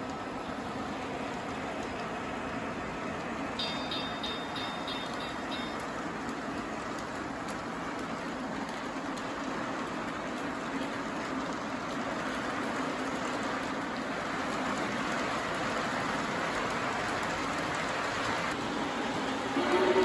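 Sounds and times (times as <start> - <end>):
model train wheels rumbling: 0.0 - 20.0.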